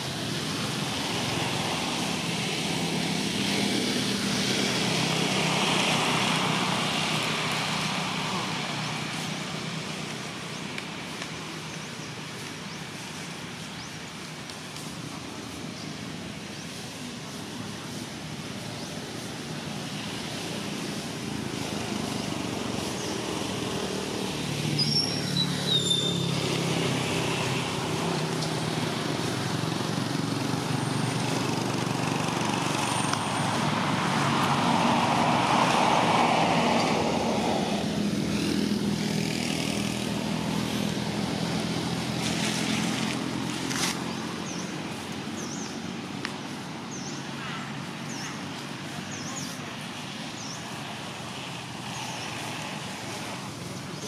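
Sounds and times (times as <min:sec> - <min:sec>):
traffic noise: 0:00.0 - 0:54.0.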